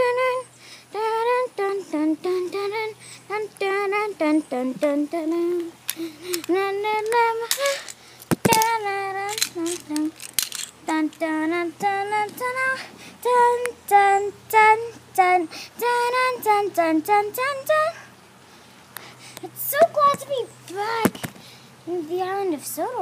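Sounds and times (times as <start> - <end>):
child singing: 0.0 - 18.1, 19.4 - 21.2, 21.8 - 23.0.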